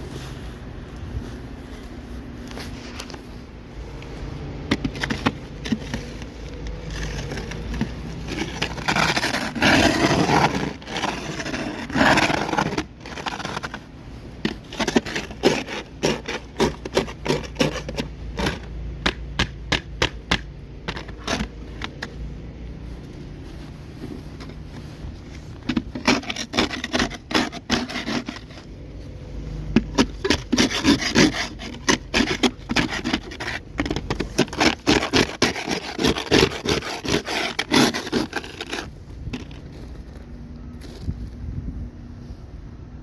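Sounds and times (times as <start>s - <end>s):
ice scraper scraping car ice: 2.4s - 23.0s, 23.6s - 40.2s.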